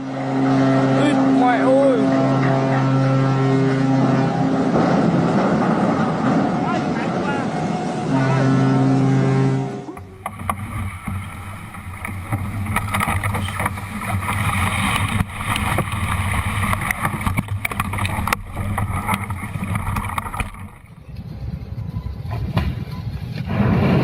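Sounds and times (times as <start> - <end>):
boat engine humming: 0.0 - 23.3
wind and water noise: 0.0 - 24.0.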